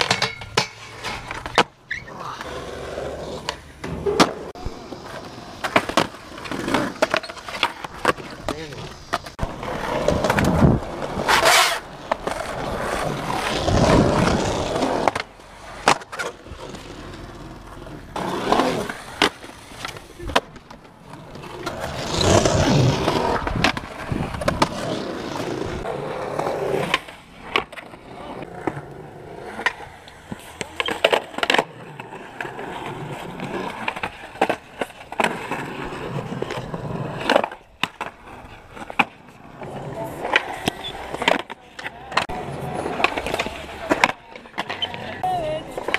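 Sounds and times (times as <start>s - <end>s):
skateboard popping and landing: 0.0s - 45.9s
skateboard sliding on concrete: 0.0s - 45.9s
skateboard wheels rolling on concrete: 0.0s - 45.9s.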